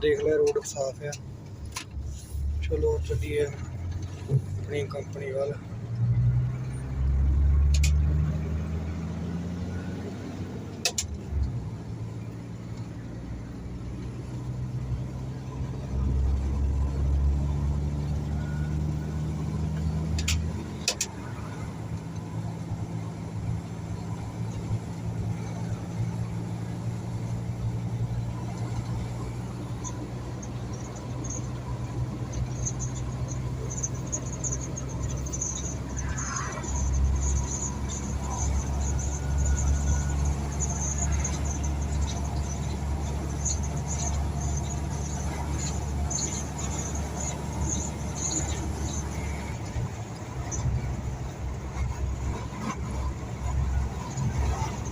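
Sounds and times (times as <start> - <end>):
truck diesel engine humming: 0.0 - 54.9.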